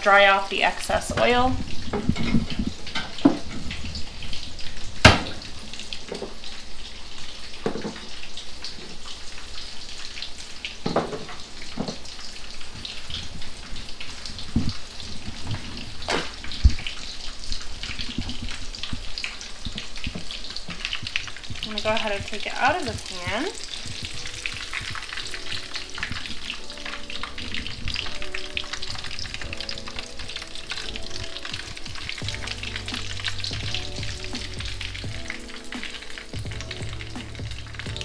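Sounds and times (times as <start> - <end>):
fish frying in hot oil: 0.0 - 38.0.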